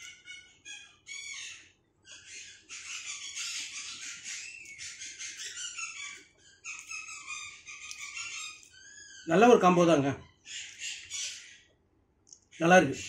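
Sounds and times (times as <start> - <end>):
parrot squawking: 0.0 - 11.7, 12.5 - 13.0.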